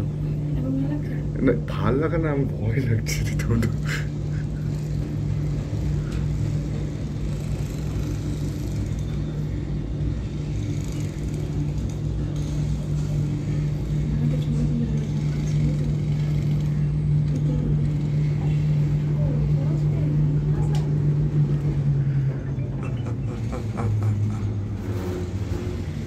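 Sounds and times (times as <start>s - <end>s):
cable car cabin hum: 0.0s - 26.0s.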